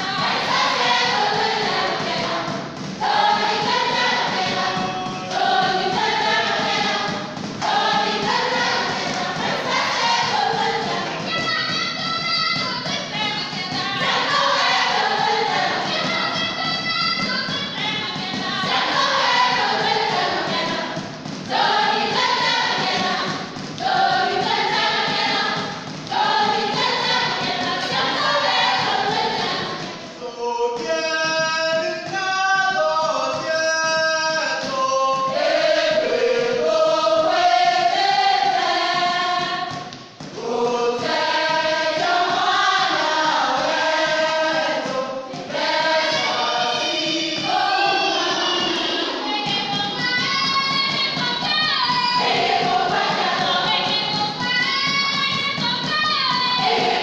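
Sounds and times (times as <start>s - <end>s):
group of voices singing: 0.0s - 57.0s.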